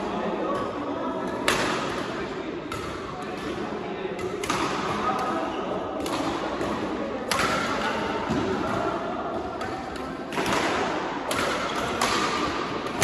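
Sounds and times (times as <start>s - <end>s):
rackets hitting shuttlecock: 0.1s - 13.0s.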